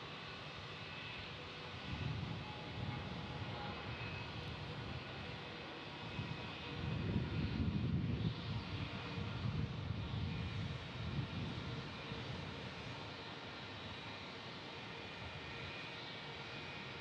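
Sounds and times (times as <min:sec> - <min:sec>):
jet engines rumbling at takeoff: 0:00.0 - 0:17.0.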